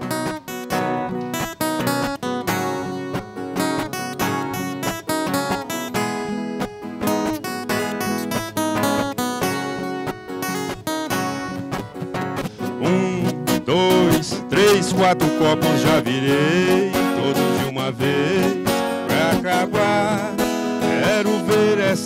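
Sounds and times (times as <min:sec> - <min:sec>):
acoustic guitar strumming and picking: 0:00.0 - 0:22.0.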